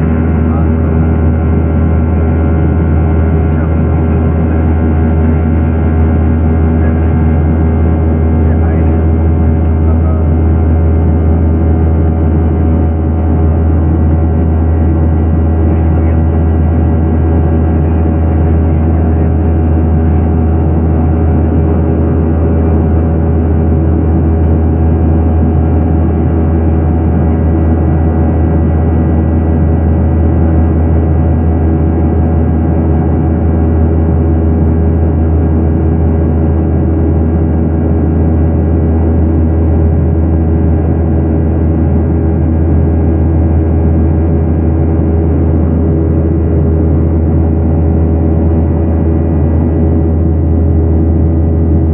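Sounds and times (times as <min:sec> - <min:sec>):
jet engine drone in cabin: 0:00.0 - 0:51.9.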